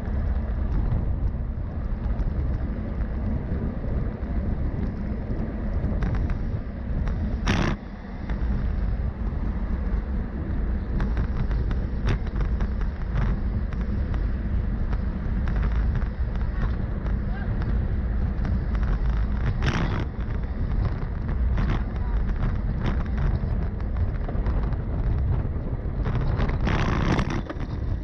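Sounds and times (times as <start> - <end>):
wind and road noise rumble: 0.0 - 28.0.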